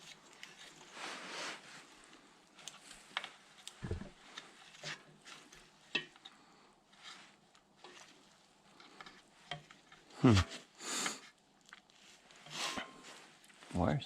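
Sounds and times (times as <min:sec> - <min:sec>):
clicks and rustles of wires handled: 0:00.0 - 0:14.0.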